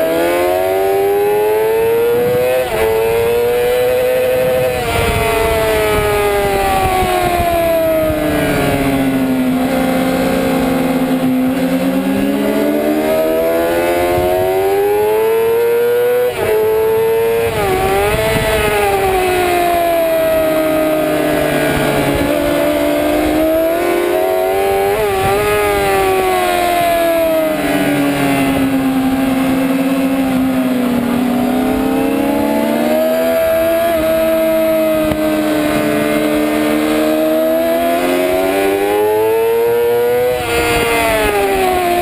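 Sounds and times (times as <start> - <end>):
motorcycle engine revving: 0.0 - 42.0
rush of wind: 0.0 - 42.0.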